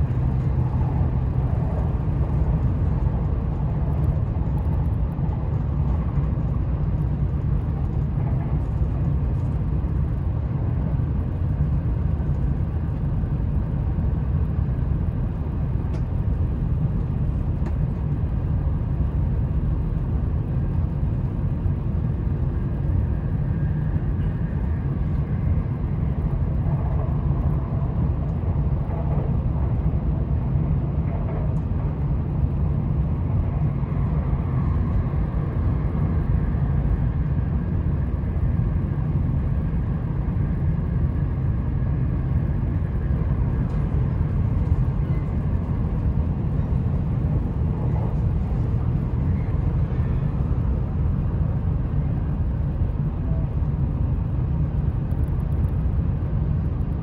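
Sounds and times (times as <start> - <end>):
train low rumble from inside: 0.0 - 57.0.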